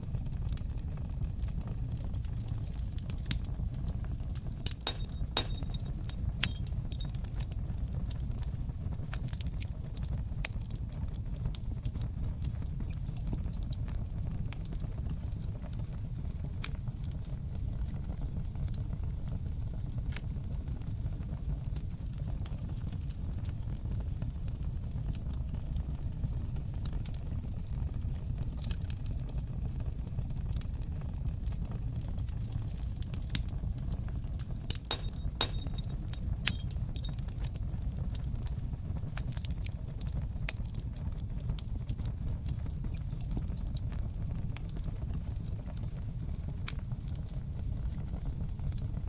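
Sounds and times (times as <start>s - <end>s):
fire crackling: 0.0s - 49.0s
sharp pops and snaps of fire: 0.0s - 49.0s.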